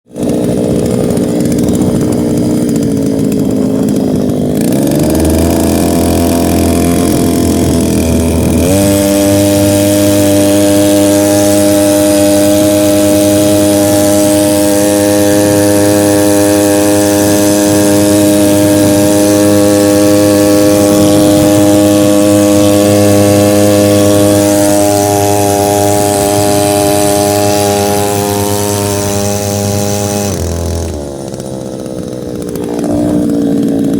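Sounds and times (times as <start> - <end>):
small engine revving: 0.0 - 33.9.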